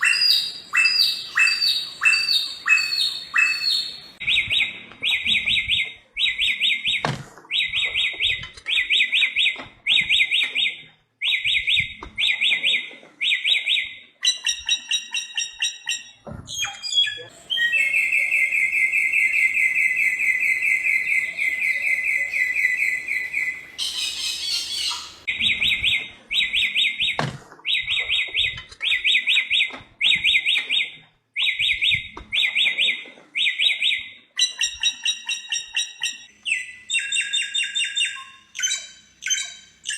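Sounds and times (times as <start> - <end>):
bird trill: 0.0 - 39.9.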